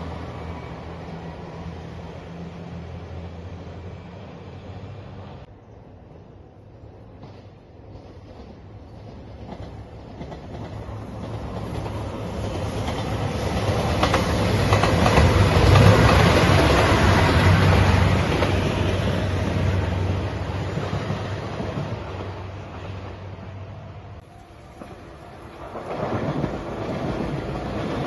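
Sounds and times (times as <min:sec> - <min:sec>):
diesel train engine drone: 0:00.0 - 0:28.0
train wheels rumbling on rails: 0:00.0 - 0:28.0.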